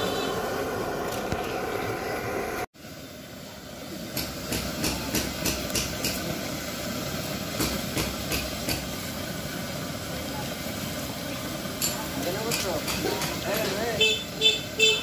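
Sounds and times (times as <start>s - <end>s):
deep-frying sizzle: 0.0s - 15.0s.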